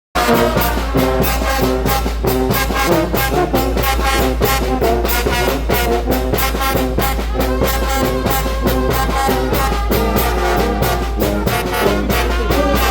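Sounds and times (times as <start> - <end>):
brass band music: 0.1 - 12.9
quick drum and cymbal beat: 0.2 - 12.9.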